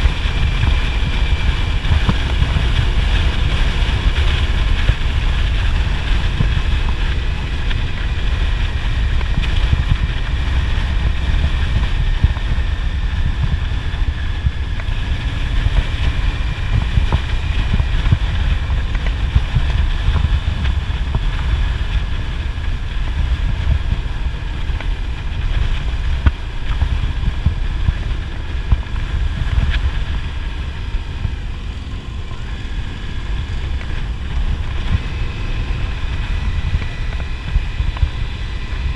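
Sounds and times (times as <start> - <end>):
motorcycle engine rumble: 0.0 - 38.9
wind buffeting microphone: 0.0 - 38.9.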